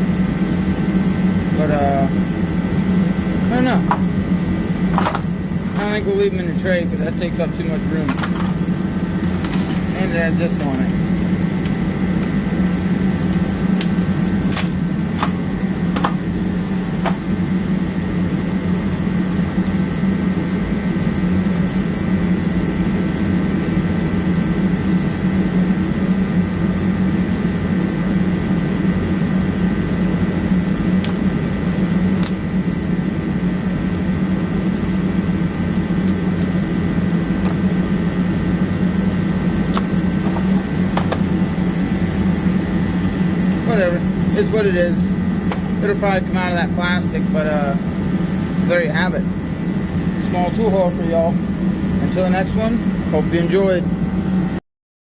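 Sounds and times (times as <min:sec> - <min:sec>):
space heater humming: 0:00.0 - 0:54.6.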